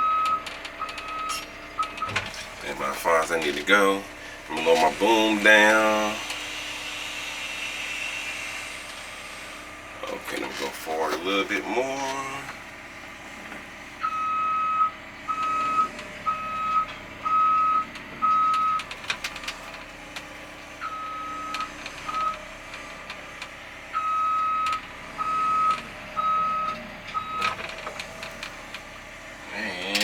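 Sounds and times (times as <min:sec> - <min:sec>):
excavator travel alarm beeping: 0:00.0 - 0:06.6, 0:10.0 - 0:12.6, 0:14.0 - 0:20.2, 0:20.8 - 0:30.0.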